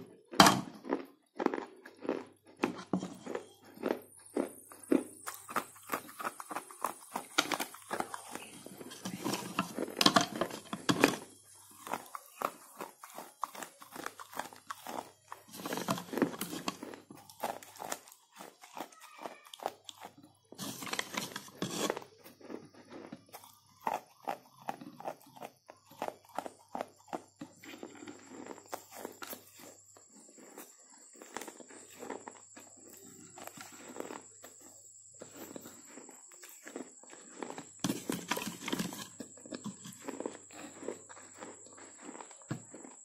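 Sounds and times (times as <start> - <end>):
slate pencil being chewed: 1.0 - 43.0.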